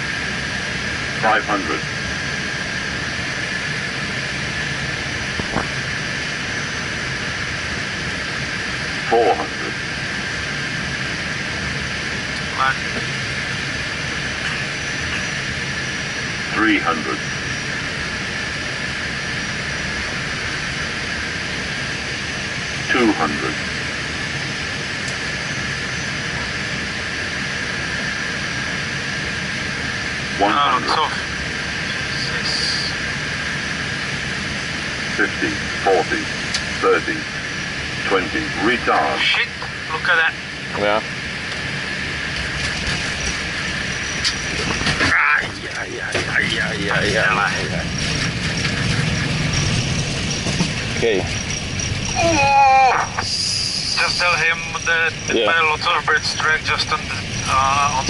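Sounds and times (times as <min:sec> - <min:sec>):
airliner cockpit airflow and engines: 0:00.0 - 0:58.0
high whine: 0:00.0 - 0:58.0.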